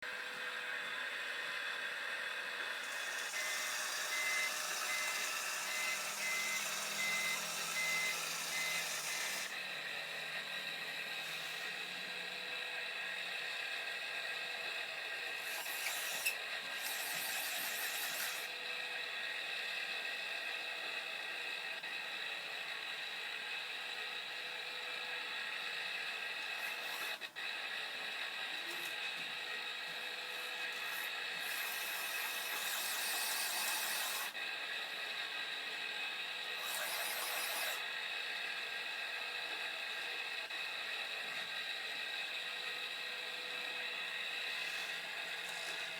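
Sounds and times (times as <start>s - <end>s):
electronic toy truck engine sound: 2.6s - 19.8s, 21.2s - 45.9s.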